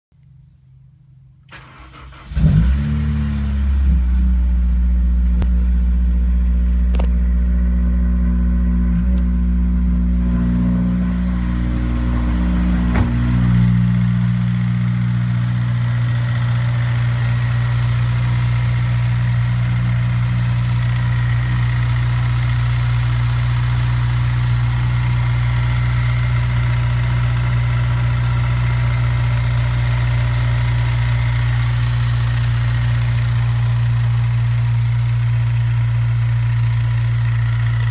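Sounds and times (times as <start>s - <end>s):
car engine starting and idling: 0.2s - 37.9s.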